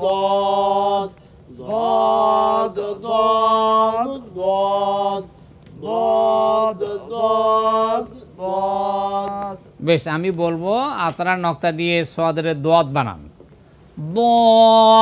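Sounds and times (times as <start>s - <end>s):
men chanting syllables: 0.0s - 13.0s, 14.0s - 15.0s.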